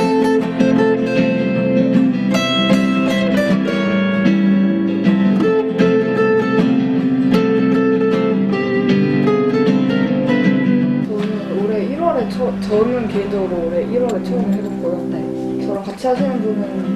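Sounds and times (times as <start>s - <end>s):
acoustic guitar folk tune: 0.0s - 16.9s.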